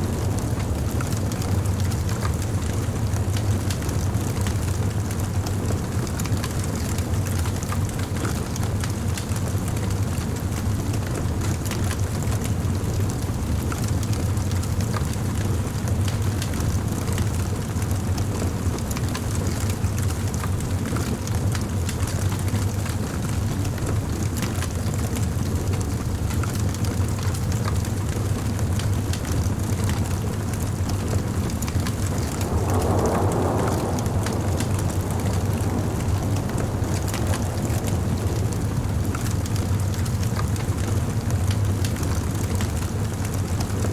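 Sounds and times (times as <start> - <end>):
fire crackling: 0.0 - 43.9
rush of flames: 0.0 - 43.9.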